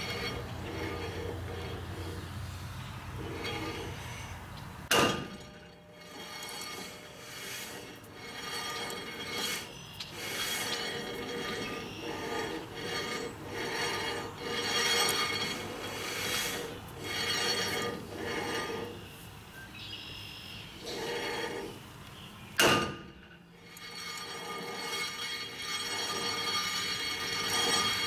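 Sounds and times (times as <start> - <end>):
brake drum rasping rub: 0.0 - 19.3, 20.8 - 28.0.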